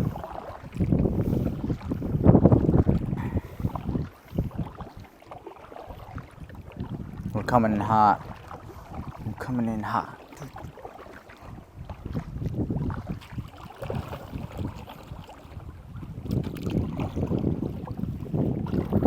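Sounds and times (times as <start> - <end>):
water splashing around kayak: 0.0 - 19.0
wind buffeting microphone: 0.0 - 19.0.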